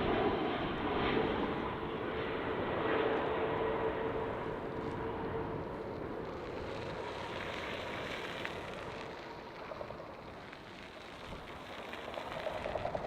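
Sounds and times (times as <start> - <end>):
jet airliner engine roar: 0.0 - 13.0.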